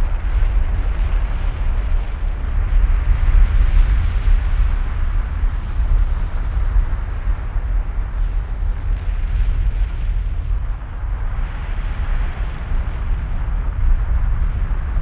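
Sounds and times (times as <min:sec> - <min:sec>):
deep rumble of lava fountain: 0:00.0 - 0:15.0.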